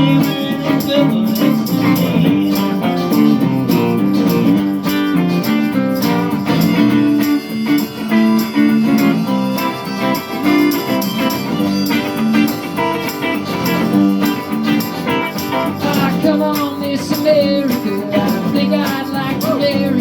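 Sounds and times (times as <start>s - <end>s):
live band with guitars: 0.0s - 20.0s.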